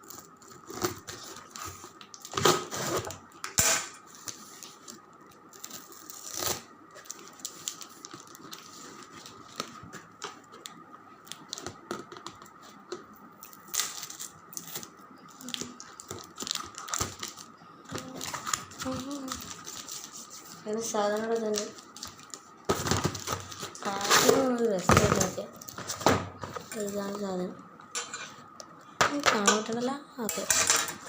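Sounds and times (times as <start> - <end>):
packaging rustling and tearing: 0.0 - 3.2, 4.1 - 27.2.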